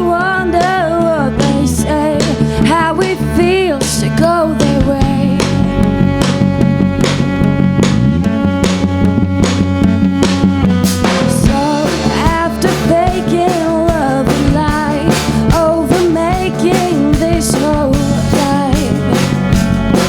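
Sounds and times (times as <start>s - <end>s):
indie rock band playing: 0.0s - 20.0s
wavering melodic lead line: 0.0s - 20.0s.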